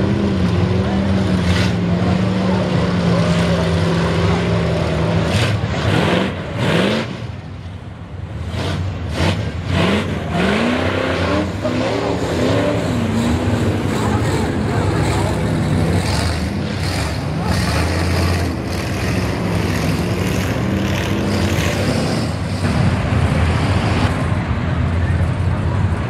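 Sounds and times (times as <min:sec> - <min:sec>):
truck engine revving: 0:00.0 - 0:07.6, 0:08.2 - 0:24.4.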